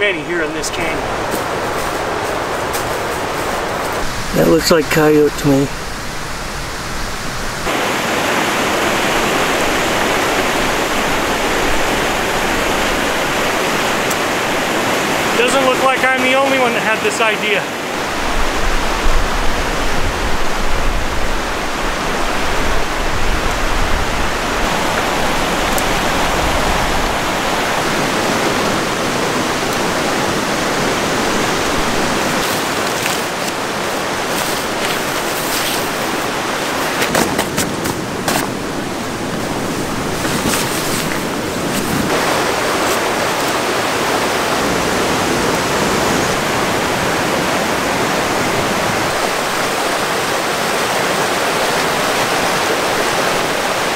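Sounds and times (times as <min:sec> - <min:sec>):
river rushing: 0:00.0 - 0:53.9.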